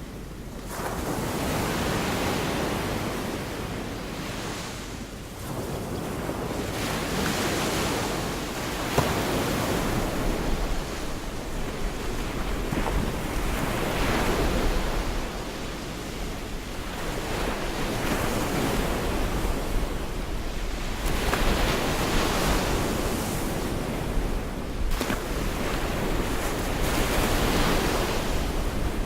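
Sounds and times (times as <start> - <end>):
surf washing onto a beach: 0.6 - 29.0.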